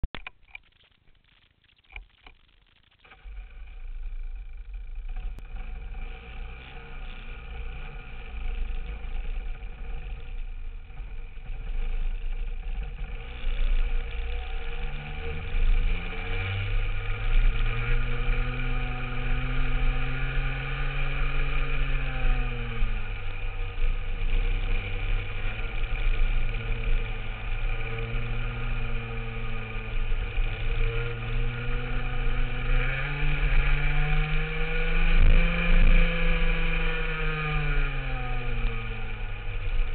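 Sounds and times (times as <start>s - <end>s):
kart engine revving: 3.0s - 39.9s.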